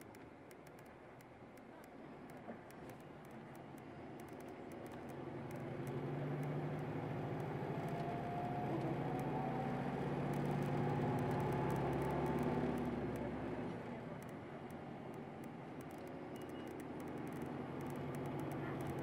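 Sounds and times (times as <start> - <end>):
bus engine with rising whine: 2.0 - 19.0.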